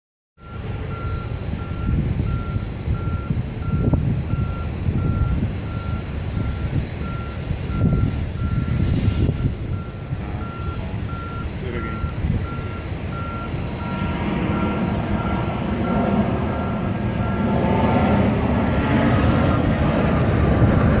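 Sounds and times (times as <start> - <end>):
reversing alarm beeping: 0.4 - 21.0
loud low rumble: 1.5 - 21.0.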